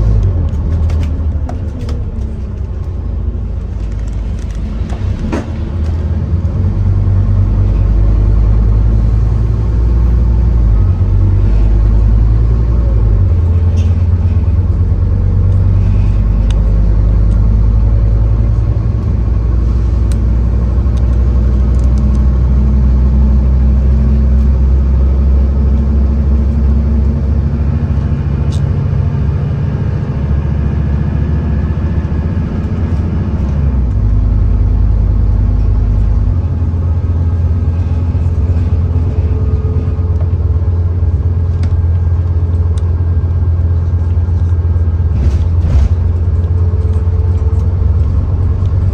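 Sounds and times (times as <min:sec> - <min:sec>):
bus diesel engine under load: 0:00.0 - 0:48.9.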